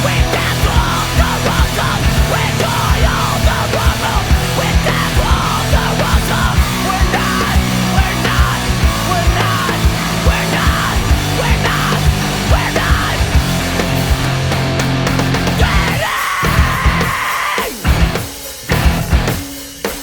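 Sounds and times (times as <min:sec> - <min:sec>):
shouted vocal: 0:00.0 - 0:13.8, 0:15.5 - 0:17.9
fast kick drums: 0:00.0 - 0:17.2, 0:17.8 - 0:19.5
heavy metal music: 0:00.0 - 0:20.0.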